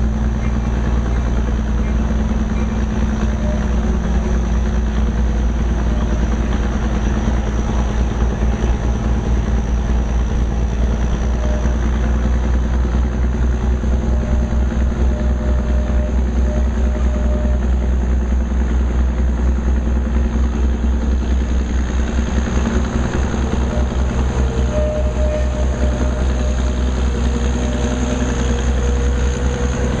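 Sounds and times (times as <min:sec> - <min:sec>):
locomotive running: 0:00.0 - 0:30.0
train wheels on track: 0:00.0 - 0:30.0.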